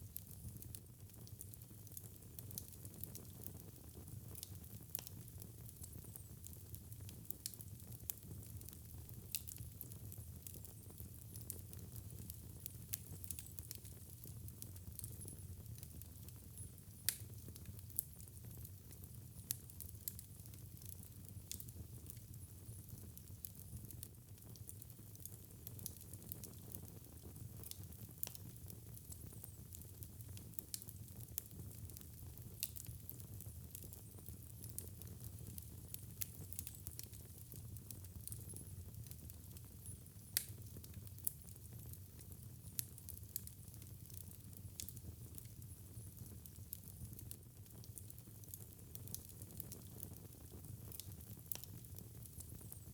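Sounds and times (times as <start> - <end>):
fire crackling and snapping: 0.0 - 52.9.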